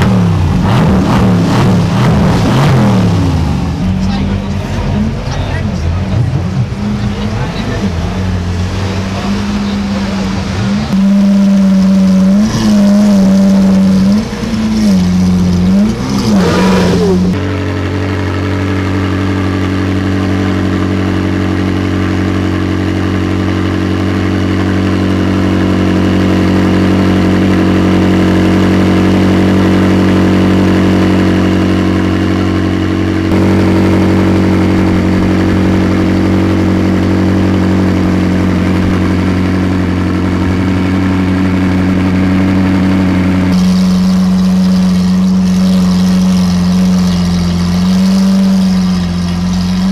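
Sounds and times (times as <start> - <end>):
engine throttle blips: 0.0 - 49.9
second car engine idling: 0.0 - 49.9
sports car engine idling loudly: 0.0 - 49.9.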